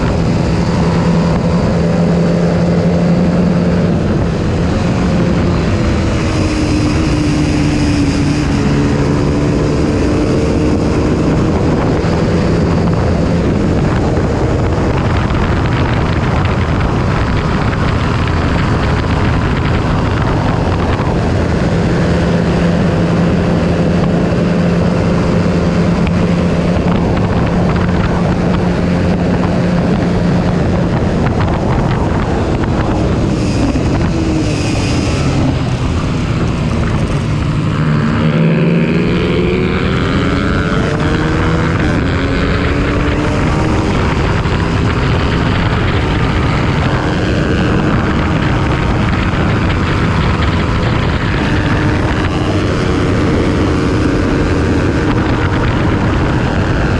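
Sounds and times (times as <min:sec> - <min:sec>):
motorcycle engine revving: 0:00.0 - 0:56.9
wind rushing over microphone: 0:00.0 - 0:56.9.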